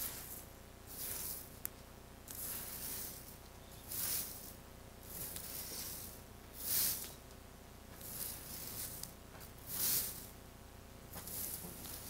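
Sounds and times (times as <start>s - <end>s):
broom sweeping snow: 0.0s - 1.6s, 2.3s - 7.2s, 8.0s - 10.4s, 11.1s - 12.0s.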